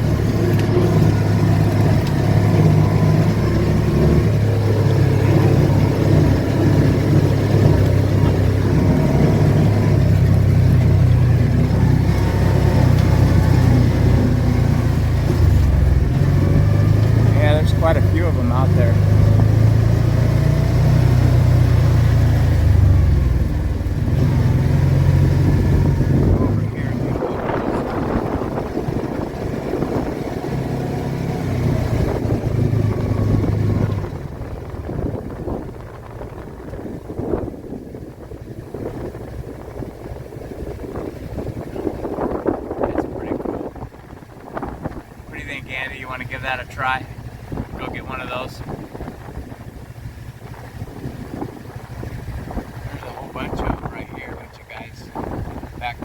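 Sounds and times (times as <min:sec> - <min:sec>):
car engine humming: 0:00.0 - 0:56.0
road noise: 0:00.0 - 0:56.0.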